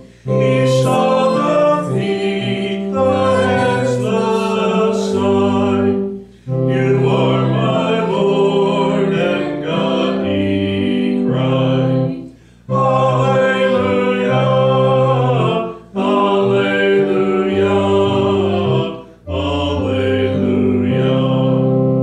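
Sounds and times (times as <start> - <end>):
hymn singing: 0.0 - 22.0
low instrumental accompaniment: 0.0 - 22.0.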